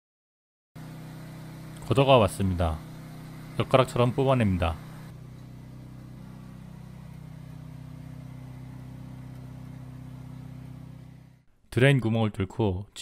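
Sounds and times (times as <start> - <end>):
gutter machine humming: 0.8 - 11.5.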